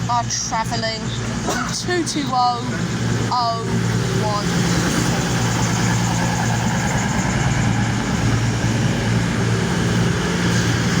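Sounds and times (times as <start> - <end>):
diesel train engines idling: 0.0 - 11.0.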